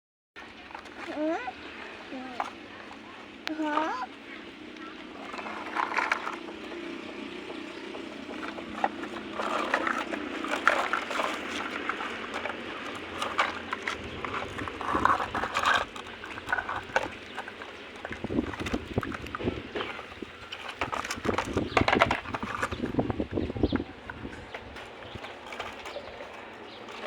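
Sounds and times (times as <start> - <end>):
clicks and scraping: 0.4 - 27.0.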